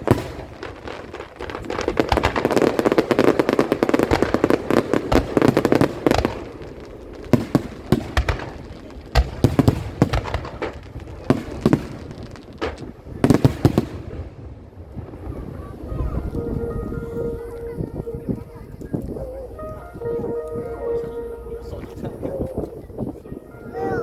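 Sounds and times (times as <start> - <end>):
fireworks exploding: 0.0 - 24.0.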